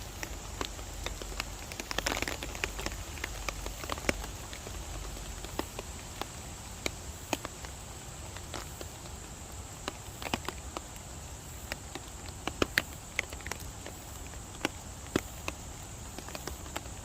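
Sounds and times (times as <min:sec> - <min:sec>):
large raindrops tapping: 0:00.0 - 0:17.0
rain hiss: 0:00.0 - 0:17.0.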